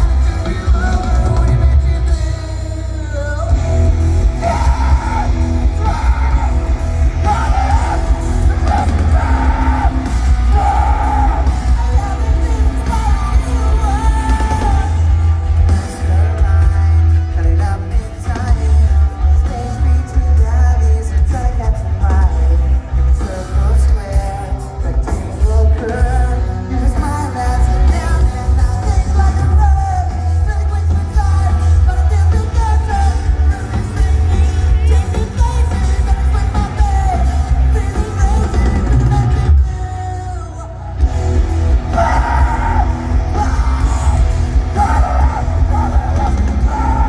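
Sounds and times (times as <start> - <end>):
live rock band playing: 0.0 - 47.0
man singing and yelling: 0.0 - 47.0.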